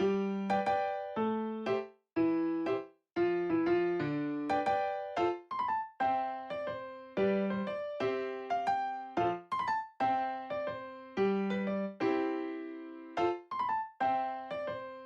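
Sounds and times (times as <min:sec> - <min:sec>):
light keyboard tune: 0:00.0 - 0:15.0.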